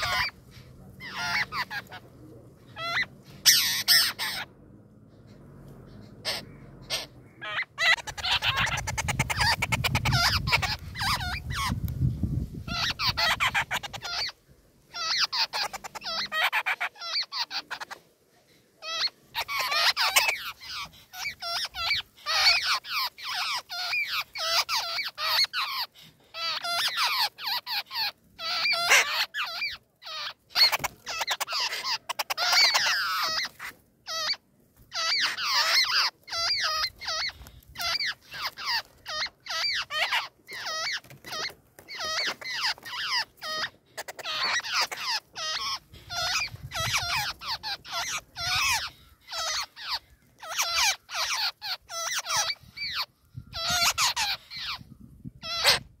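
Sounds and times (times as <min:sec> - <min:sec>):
nestling birds begging calls: 0:00.0 - 0:56.0.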